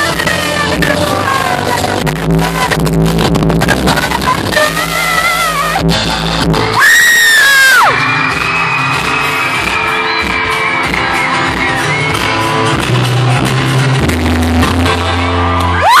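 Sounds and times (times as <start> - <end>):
live pop music: 0.0 - 16.0.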